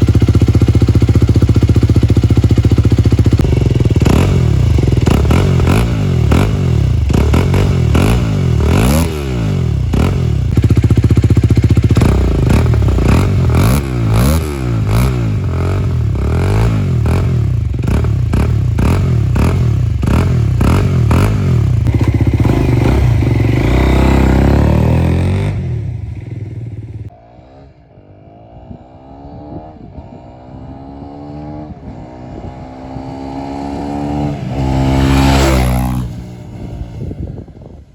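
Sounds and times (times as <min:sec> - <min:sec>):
motorcycle engine revving: 0:00.0 - 0:37.8
motorcycle accelerating through gears: 0:00.0 - 0:37.9.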